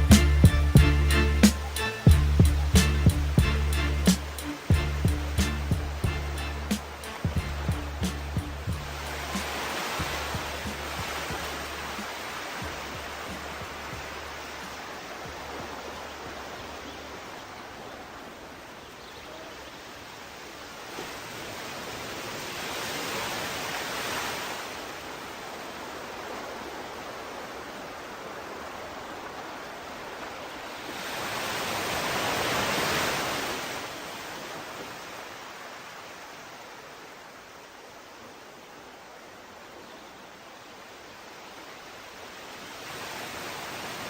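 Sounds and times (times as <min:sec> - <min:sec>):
waves washing onto shore: 0:00.0 - 0:44.0.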